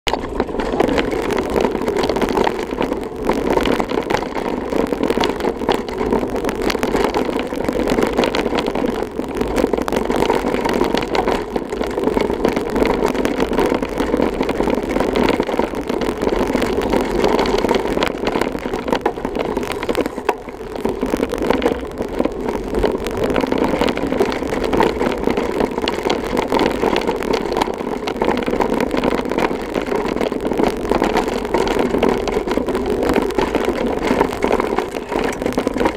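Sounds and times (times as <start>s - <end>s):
bike tyres rumbling on gravel: 0.0s - 35.9s
bike rattles and knocks: 0.1s - 35.9s.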